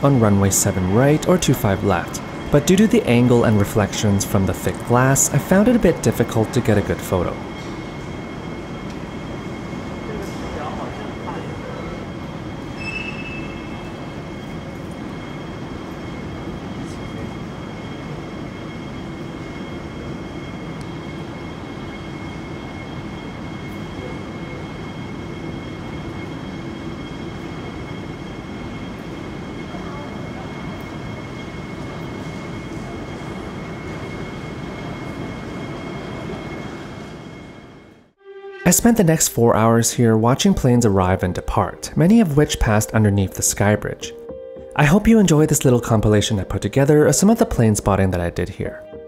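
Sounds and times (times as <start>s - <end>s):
high-pitched hum: 0.0s - 49.0s.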